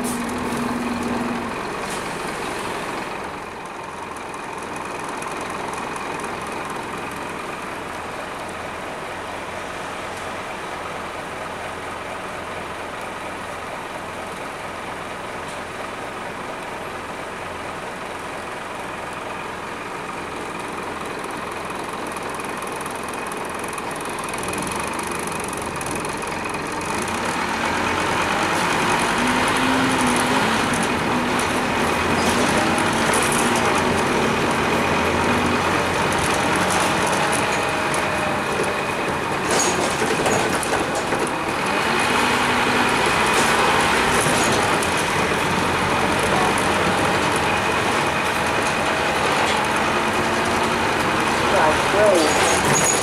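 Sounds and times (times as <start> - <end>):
bus diesel engine: 0.0 - 53.0.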